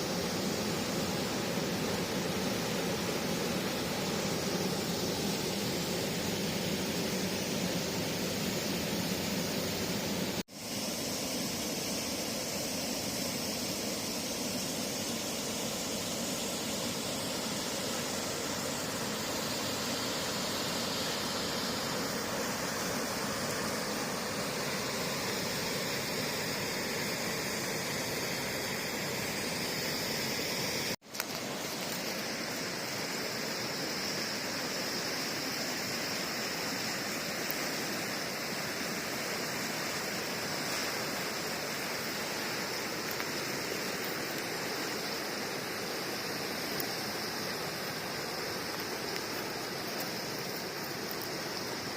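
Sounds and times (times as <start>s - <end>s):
river water flowing: 0.0s - 51.9s.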